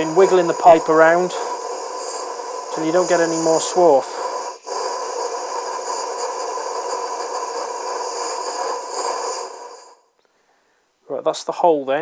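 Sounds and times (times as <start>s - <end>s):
compressed air hissing through pipe: 0.0s - 10.2s.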